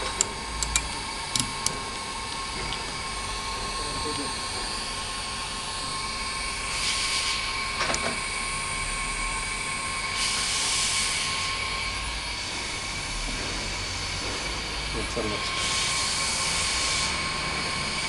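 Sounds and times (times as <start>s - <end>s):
machine hum with thin whine: 0.0s - 18.0s.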